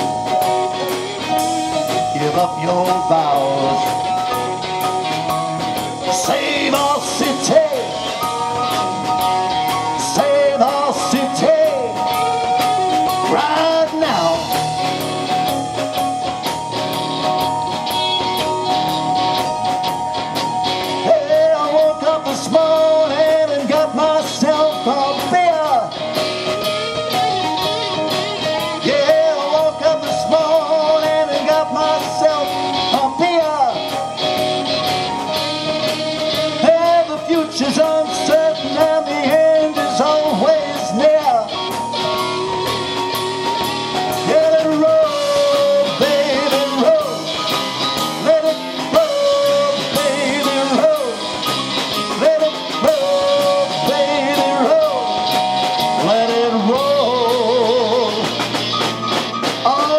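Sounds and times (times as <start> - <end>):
lead line of bending notes: 0.0 - 59.9
live rock band playing: 0.0 - 59.9.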